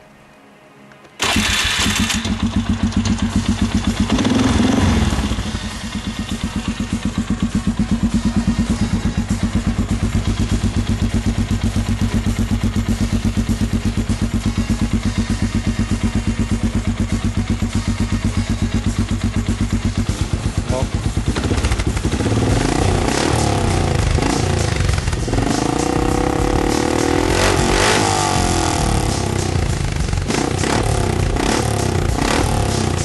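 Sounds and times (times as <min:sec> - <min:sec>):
atv engine idling: 0:01.2 - 0:33.0.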